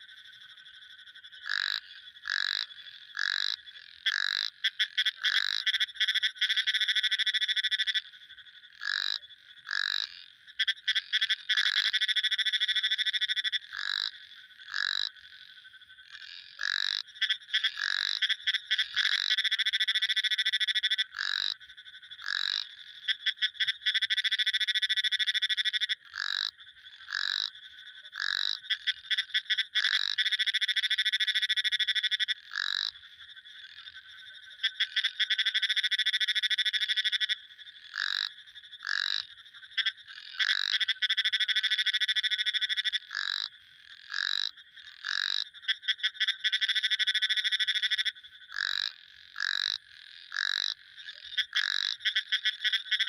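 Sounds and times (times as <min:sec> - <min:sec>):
frogs pulsing trills: 0:00.0 - 0:53.0
frogs sharp calls: 0:00.0 - 0:53.0.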